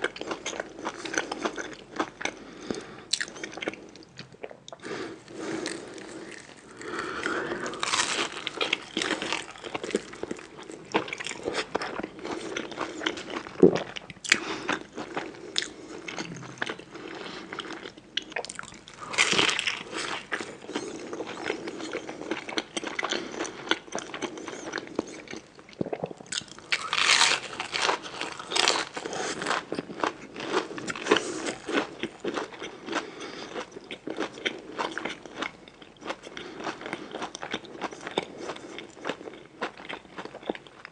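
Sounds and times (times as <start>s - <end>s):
chewing with crisp crunching: 0.0s - 40.9s.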